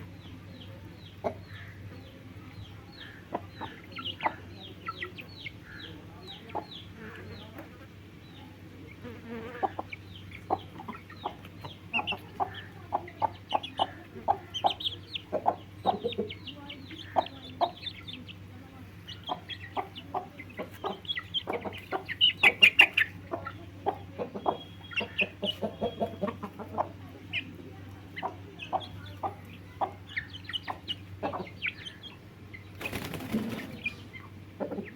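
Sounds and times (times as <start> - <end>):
chicks peeping: 0.0 - 34.9
steady low hum: 0.0 - 34.9.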